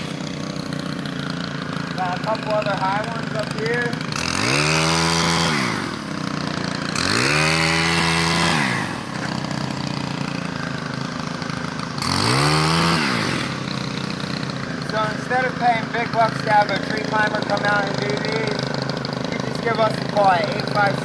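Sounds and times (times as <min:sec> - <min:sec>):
pole saw engine revving and idling: 0:00.0 - 0:21.0.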